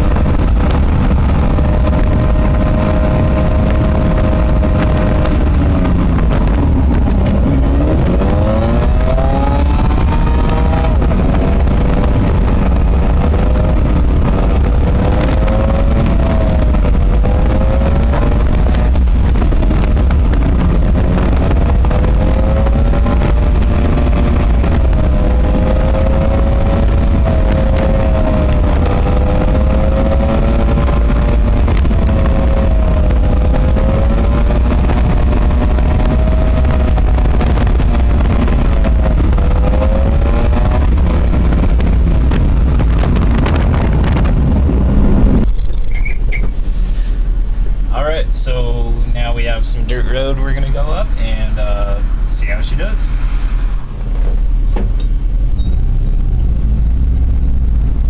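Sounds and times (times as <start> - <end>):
vehicle engine revving while driving: 0.0 - 58.0.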